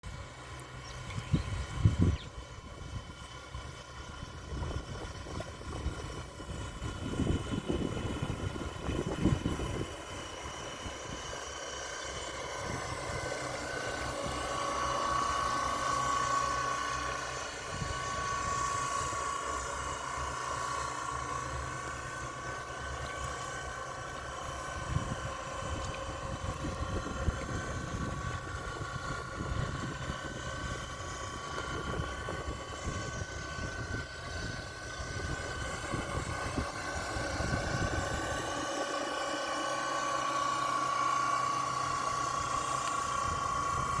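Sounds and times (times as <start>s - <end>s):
model boat motor whining: 0.0s - 44.0s.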